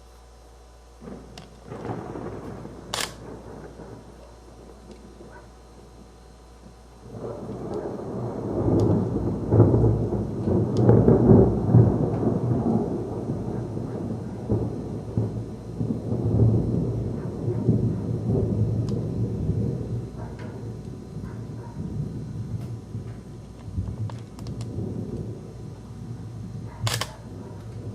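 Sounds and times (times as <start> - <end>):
thunder rumbling: 1.0 - 27.9.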